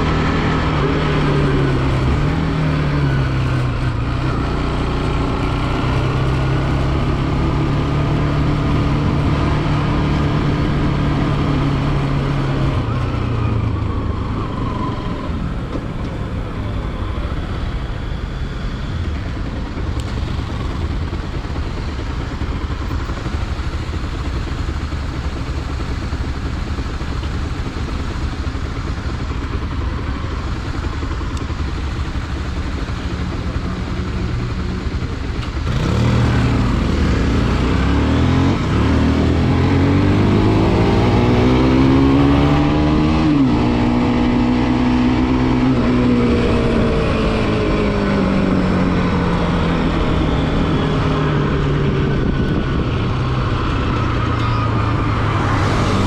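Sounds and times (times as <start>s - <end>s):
motorcycle engine accelerating: 0.0s - 56.0s
motorcycle engine cruising: 0.0s - 56.0s.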